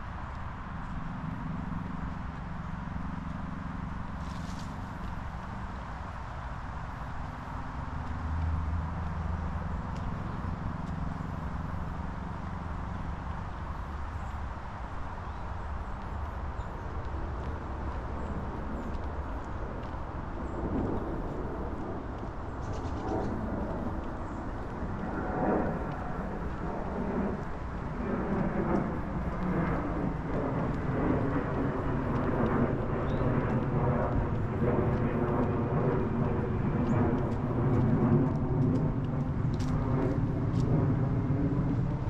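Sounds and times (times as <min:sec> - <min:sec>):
outdoor background noise: 0:00.0 - 0:42.0.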